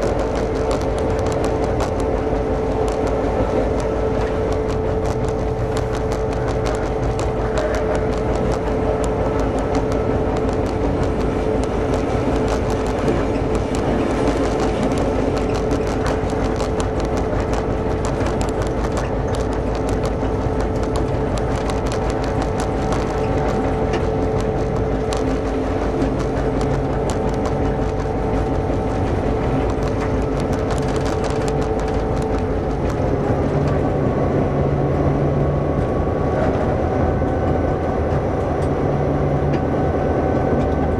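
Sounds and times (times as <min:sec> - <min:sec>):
diesel locomotive engine whining: 0:00.0 - 0:40.9
train rolling on rails: 0:00.0 - 0:40.9.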